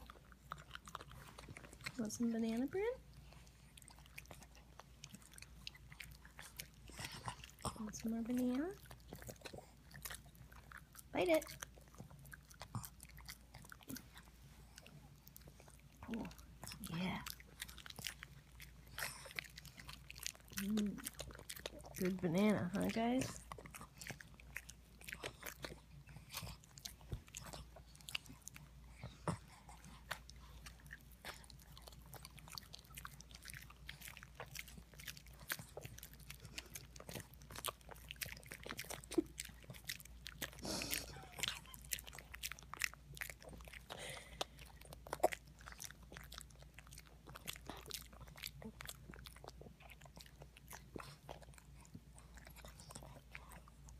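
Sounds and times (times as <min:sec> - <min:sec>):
dogs chewing and licking lips: 0:00.0 - 0:53.9.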